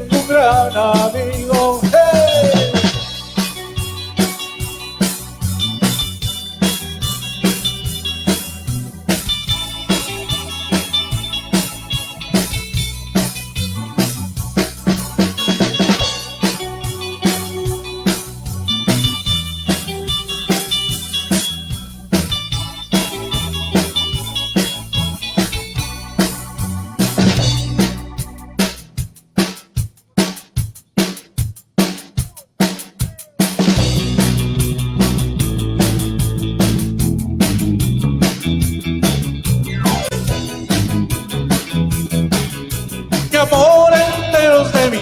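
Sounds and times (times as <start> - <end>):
bass line: 0.0 - 29.1, 33.6 - 45.0
guitar: 0.0 - 29.6, 32.2 - 45.0
drum kit beat: 0.0 - 45.0.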